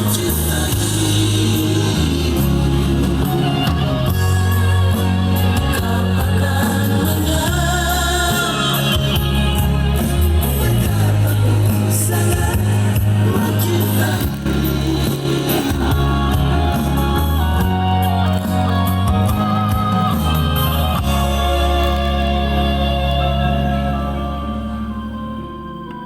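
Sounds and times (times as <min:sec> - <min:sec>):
song with singing on stereo: 0:00.0 - 0:26.0.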